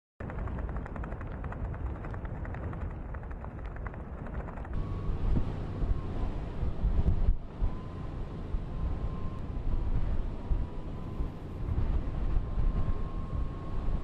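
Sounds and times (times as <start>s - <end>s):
storm wind rumbling on microphone: 0.2s - 14.0s.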